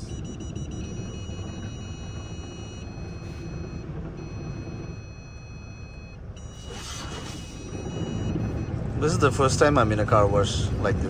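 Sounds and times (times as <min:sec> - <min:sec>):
low rumble in car wash: 0:00.0 - 0:11.0.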